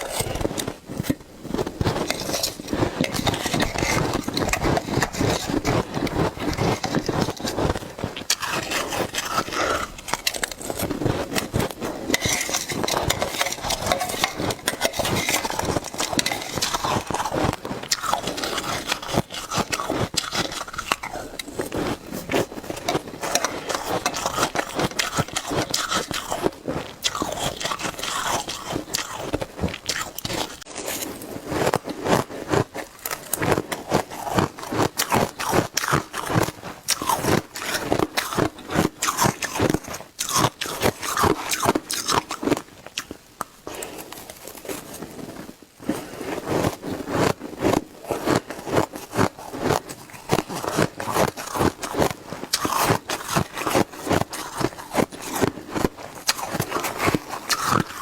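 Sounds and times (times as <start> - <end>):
ice crunching in mouth: 0.0 - 58.0.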